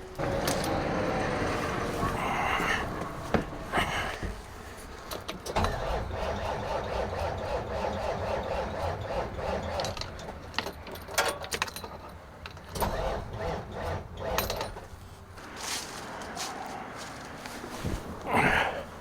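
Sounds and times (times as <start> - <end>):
diesel engine starter cranking: 0.0 - 19.0.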